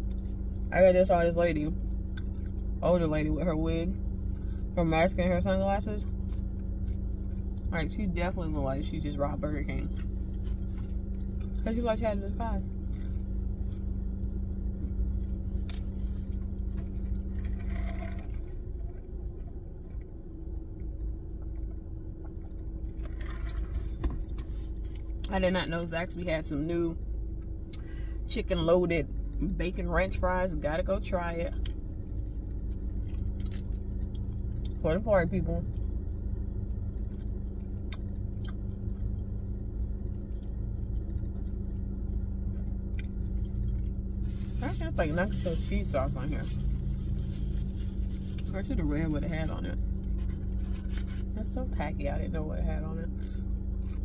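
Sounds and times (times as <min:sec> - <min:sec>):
car idling from inside: 0:00.0 - 0:54.0
steady hum: 0:00.0 - 0:54.0.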